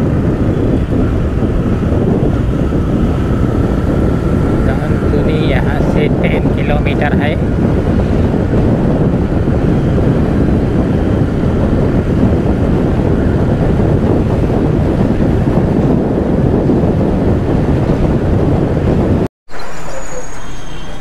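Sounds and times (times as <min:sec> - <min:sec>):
motorcycle running: 0:00.0 - 0:19.3
wind buffeting microphone: 0:00.0 - 0:21.0.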